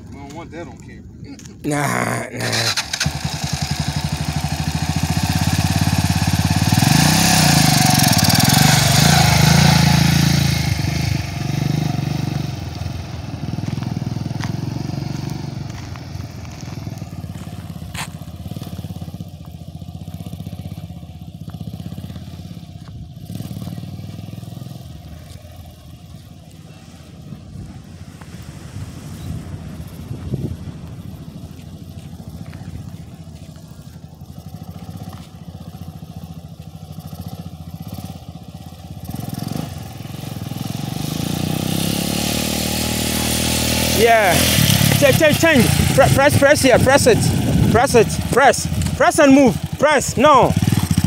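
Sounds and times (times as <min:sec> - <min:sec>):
dirt bike engine revving: 0:01.8 - 0:33.5, 0:34.1 - 0:51.0.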